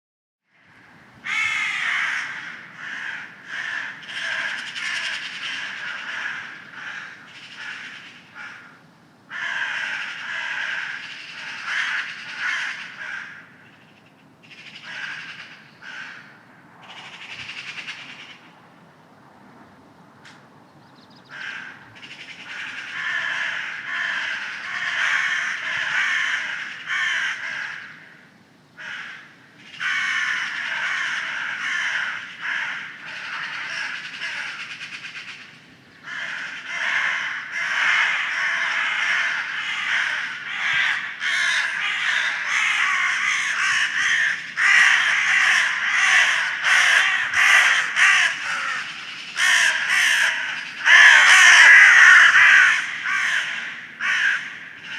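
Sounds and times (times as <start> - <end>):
crows cawing: 0.6 - 18.5, 21.2 - 54.9.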